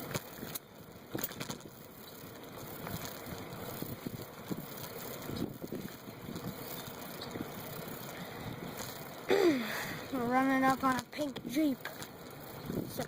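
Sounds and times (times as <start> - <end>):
bicycle tyre riding noise: 0.0 - 13.0.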